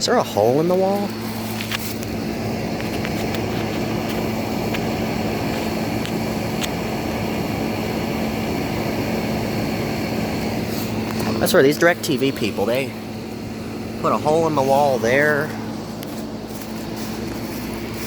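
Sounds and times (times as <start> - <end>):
air conditioner humming: 0.0 - 18.0.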